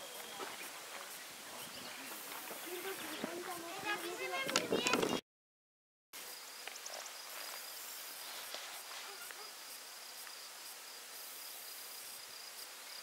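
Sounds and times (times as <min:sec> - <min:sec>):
light even hiss: 0:00.0 - 0:04.8, 0:06.2 - 0:13.0
faint insects singing: 0:00.0 - 0:05.2, 0:06.2 - 0:13.0.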